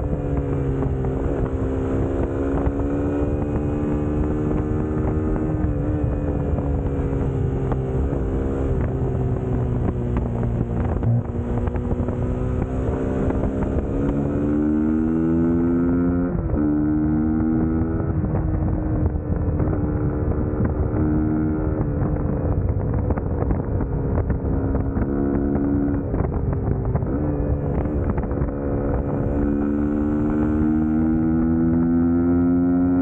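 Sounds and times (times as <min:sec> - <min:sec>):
motorcycle engine running: 0:00.0 - 0:33.0
wind noise on microphone: 0:00.0 - 0:33.0.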